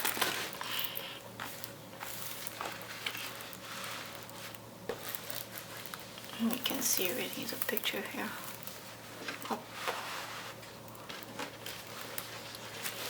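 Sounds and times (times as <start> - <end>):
soft rustling of plastic cover: 0.0 - 13.0.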